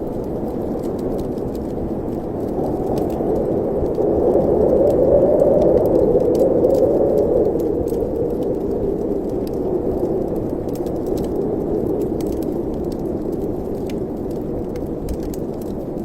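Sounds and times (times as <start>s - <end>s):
faint crackles: 0.0s - 16.0s
wind rushing in chimney: 0.0s - 16.0s.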